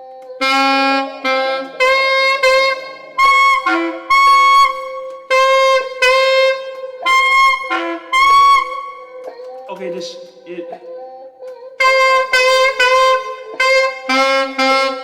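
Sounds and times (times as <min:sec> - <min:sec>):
saxophone short held notes: 0:00.4 - 0:09.3, 0:11.8 - 0:15.0.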